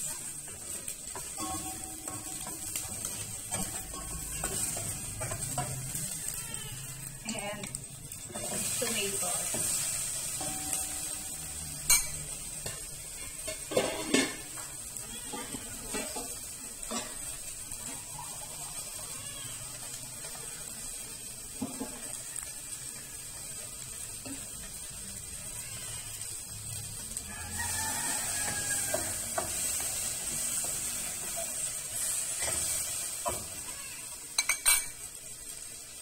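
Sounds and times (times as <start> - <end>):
garlic and onions sizzling: 0.0 - 36.0.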